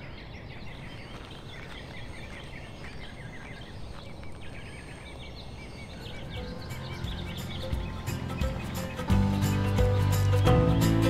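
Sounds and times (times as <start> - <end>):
low outdoor background noise: 0.0 - 11.0
small birds chirping: 0.0 - 11.0.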